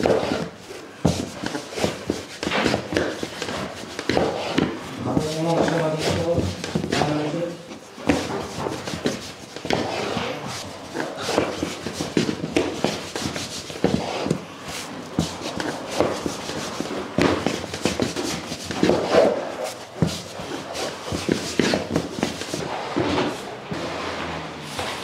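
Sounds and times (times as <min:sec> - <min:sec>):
rolling pin clacking on wooden board: 0:00.0 - 0:07.3, 0:08.0 - 0:10.0, 0:10.8 - 0:23.3.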